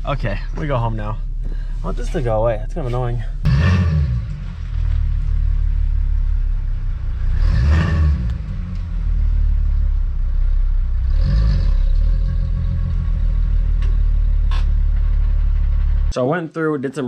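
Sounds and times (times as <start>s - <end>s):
car engine running low speed: 0.0s - 16.2s.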